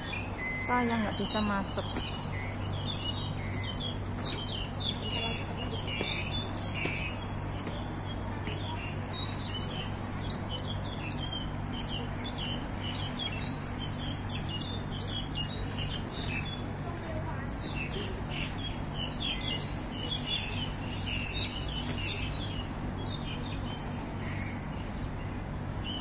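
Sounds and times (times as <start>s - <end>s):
small birds chirping: 0.0s - 26.0s
steady low hum: 0.0s - 26.0s.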